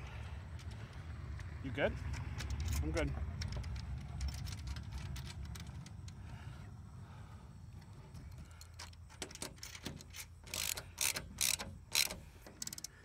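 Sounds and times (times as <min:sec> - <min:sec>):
low steady rumble: 0:00.0 - 0:13.0
hardware clicking and rattling: 0:00.5 - 0:06.2, 0:07.9 - 0:13.0.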